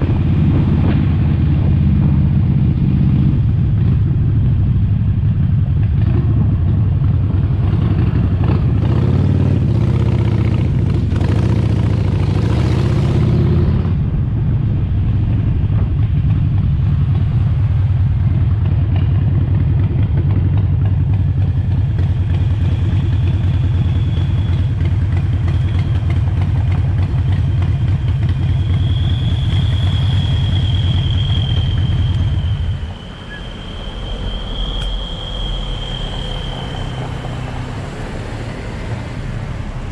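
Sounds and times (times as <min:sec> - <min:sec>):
motorcycle engine running: 0:00.0 - 0:33.3.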